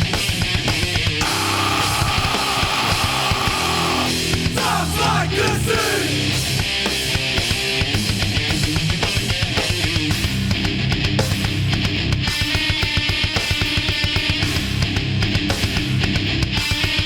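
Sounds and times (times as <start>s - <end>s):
distorted guitars: 0.0s - 17.0s
drums: 0.0s - 17.0s.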